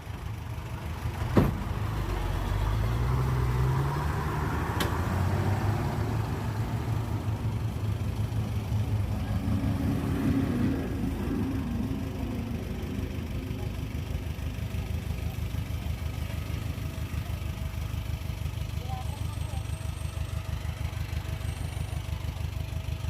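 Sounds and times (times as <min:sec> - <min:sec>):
heavy diesel engine revving: 0:00.0 - 0:23.0.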